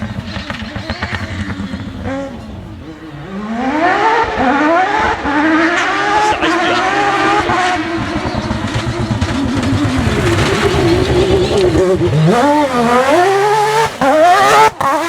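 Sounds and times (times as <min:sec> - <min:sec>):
rally car engine accelerating hard: 0:00.0 - 0:15.0.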